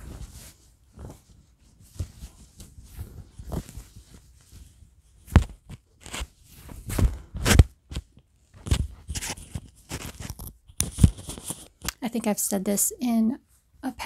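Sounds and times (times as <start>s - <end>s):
fabric rustling against microphone: 0.0s - 12.0s.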